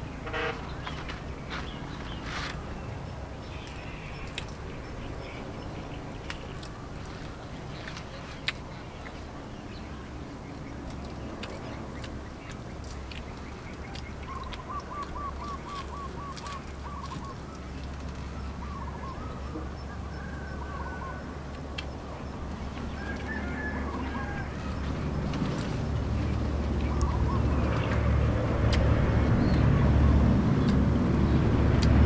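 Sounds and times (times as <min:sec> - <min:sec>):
birds calling rapidly: 0:00.0 - 0:32.0.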